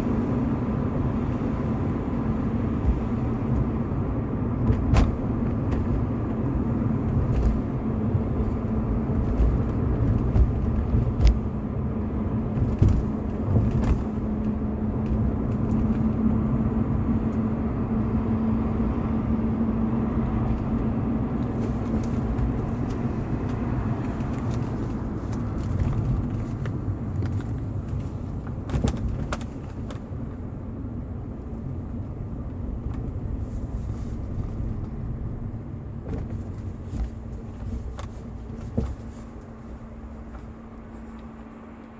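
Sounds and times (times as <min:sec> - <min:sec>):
car engine humming: 0:00.0 - 0:41.9.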